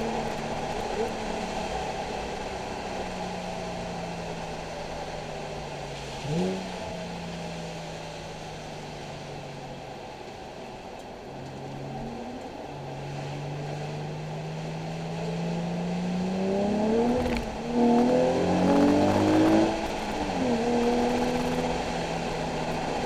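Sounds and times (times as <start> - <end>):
car engine accelerating: 0.0 - 9.9, 11.3 - 23.0.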